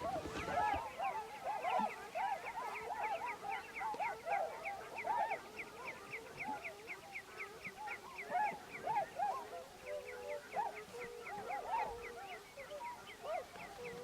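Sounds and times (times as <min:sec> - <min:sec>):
waterbirds honking and quacking: 0:00.0 - 0:14.0.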